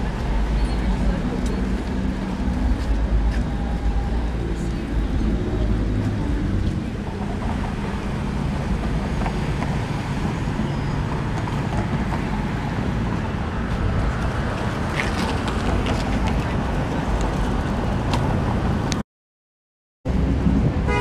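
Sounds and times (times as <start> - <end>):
traffic rumble of passing cars: 0.0 - 19.0, 20.1 - 21.0.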